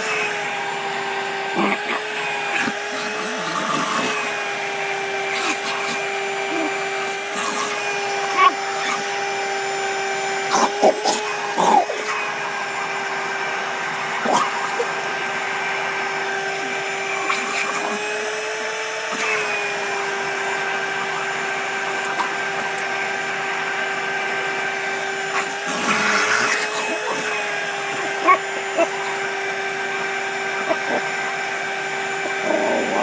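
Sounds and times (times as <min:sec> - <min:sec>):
vacuum cleaner motor whine: 0:00.0 - 0:33.0.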